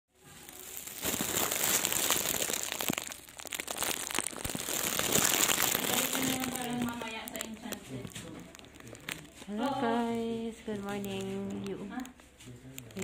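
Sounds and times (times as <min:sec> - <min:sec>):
rustling crinkling: 0:00.2 - 0:13.0.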